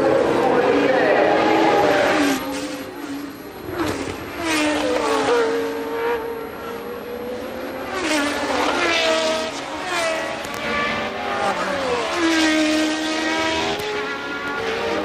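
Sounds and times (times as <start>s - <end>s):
racing cars passing at high revs: 0.0s - 15.0s.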